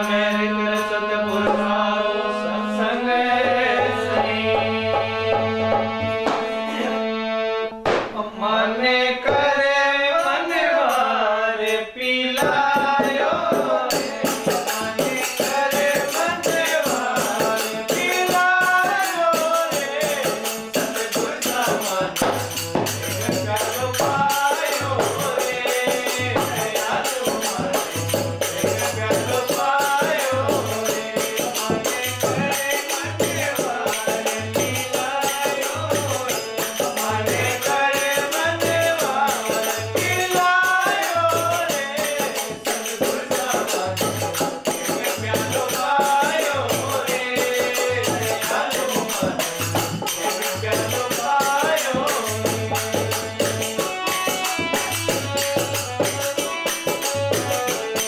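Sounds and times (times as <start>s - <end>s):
men singing together: 0.0s - 7.0s, 8.0s - 58.0s
harmonium: 0.0s - 58.0s
hand drum beats: 3.4s - 6.8s, 12.4s - 58.0s.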